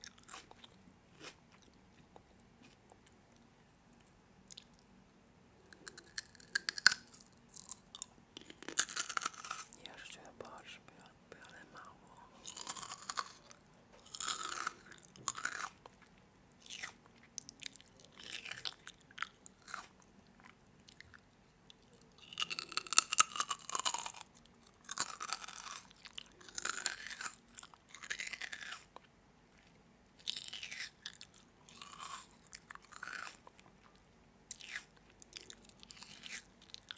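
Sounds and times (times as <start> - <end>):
person chewing crunchy food: 0.0 - 4.9, 5.6 - 10.6, 11.4 - 36.9.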